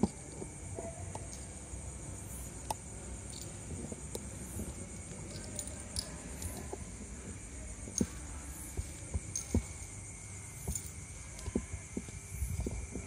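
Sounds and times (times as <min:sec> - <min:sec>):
faint high chirring: 0:00.0 - 0:13.0
steady low hum: 0:00.0 - 0:13.0.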